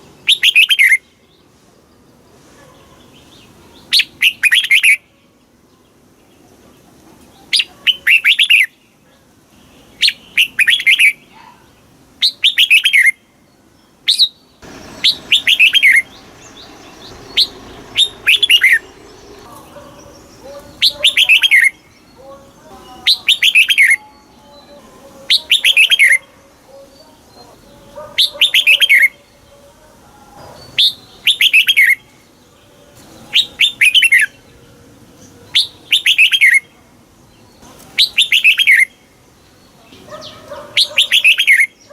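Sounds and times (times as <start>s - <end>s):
bird singing: 0.0s - 41.9s
faint low background noise: 0.0s - 41.9s.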